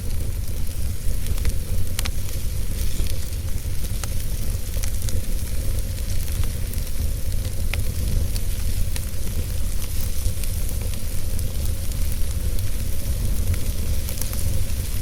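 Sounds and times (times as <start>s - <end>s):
fire crackles and pops: 0.0s - 15.0s
fire rumble and hiss: 0.0s - 15.0s.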